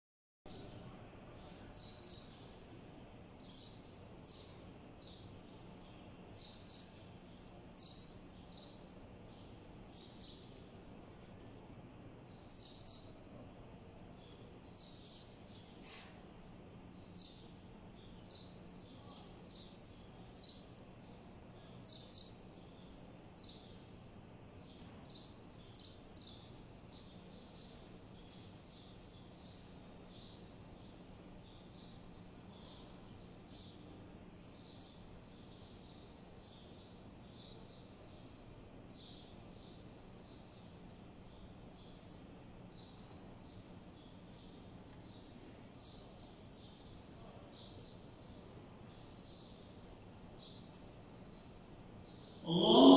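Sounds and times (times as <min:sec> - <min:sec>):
courtyard background noise: 0:00.5 - 0:52.9
low steady hum: 0:00.5 - 0:52.9
small birds chirping: 0:00.5 - 0:52.9.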